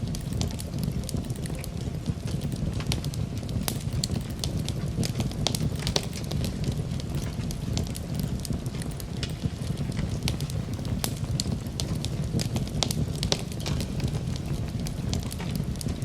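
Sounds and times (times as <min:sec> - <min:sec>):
burning wood crackling and popping: 0:00.0 - 0:16.0
campfire flames rumbling: 0:00.0 - 0:16.0.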